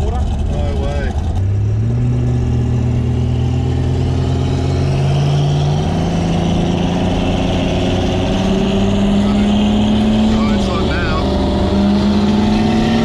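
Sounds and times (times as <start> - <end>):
car engine drone from cabin: 0.0 - 13.0.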